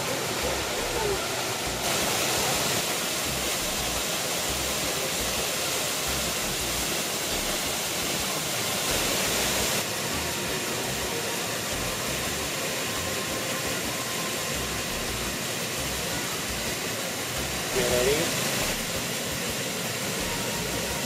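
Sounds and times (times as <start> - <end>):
waterfall pouring into pool: 0.0 - 21.0.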